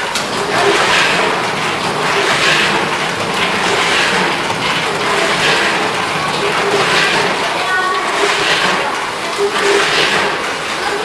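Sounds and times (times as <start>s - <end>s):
snack packing machine running: 0.0s - 11.0s.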